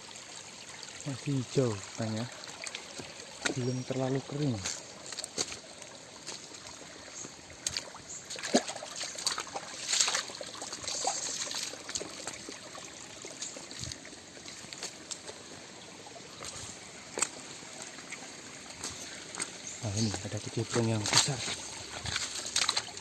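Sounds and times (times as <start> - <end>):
stream trickling and splashing: 0.0 - 23.0
small splashes and knocks: 2.0 - 15.5, 16.4 - 23.0.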